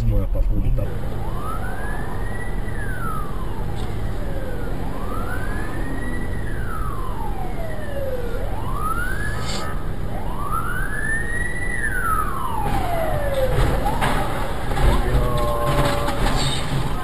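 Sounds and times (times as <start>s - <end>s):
low rumble of traffic: 0.0s - 17.0s
emergency siren wailing: 0.8s - 17.0s.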